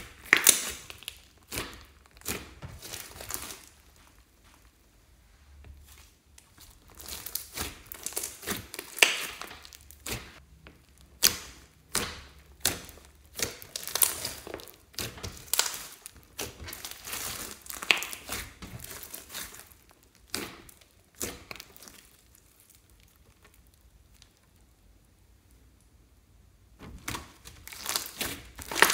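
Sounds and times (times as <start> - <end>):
slime crackling and popping: 0.0 - 4.4, 5.8 - 25.9, 26.9 - 28.9.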